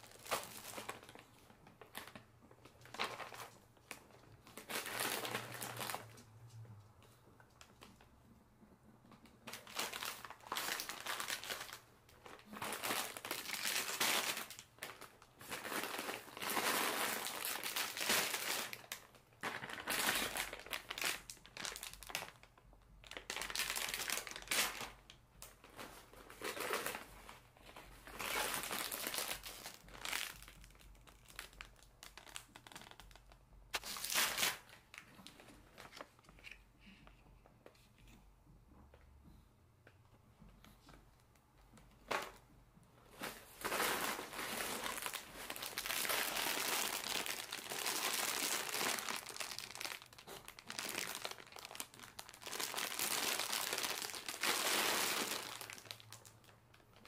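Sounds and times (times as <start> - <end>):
crinkly material crumpling: 0.0 - 8.3, 9.1 - 38.2, 40.6 - 57.0.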